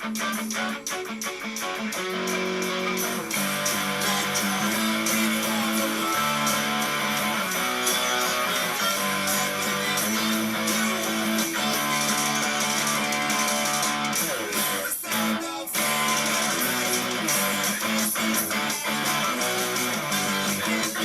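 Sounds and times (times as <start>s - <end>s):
electric guitar strumming chords: 0.0s - 21.0s
punk rock song: 0.0s - 21.0s.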